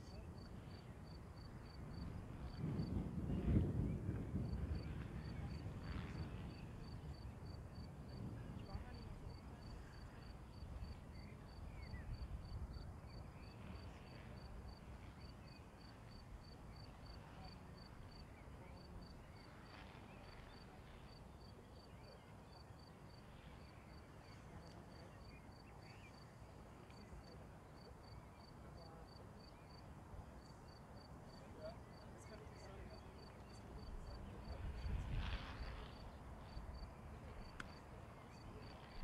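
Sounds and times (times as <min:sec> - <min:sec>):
cricket chirping: 0:00.0 - 0:02.9, 0:04.4 - 0:19.5, 0:20.2 - 0:29.8, 0:30.4 - 0:34.9.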